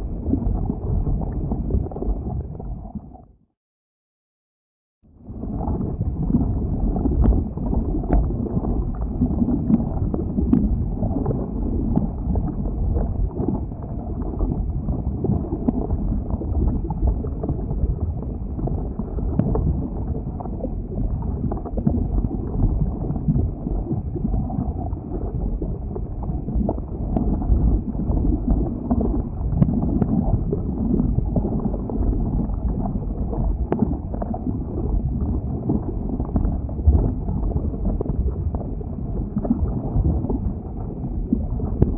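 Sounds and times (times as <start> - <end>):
low rumbling of lava flow: 0.0 - 3.3, 5.1 - 41.9.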